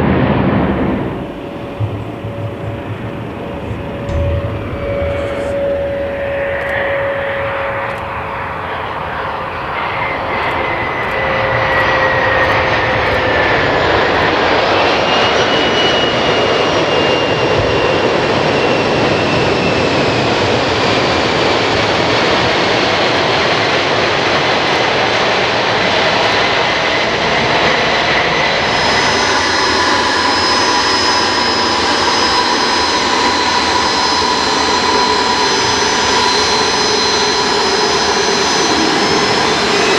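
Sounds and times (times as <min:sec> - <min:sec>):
jet engine whine: 0:00.0 - 0:39.9
jet engines rushing noise: 0:00.0 - 0:39.9.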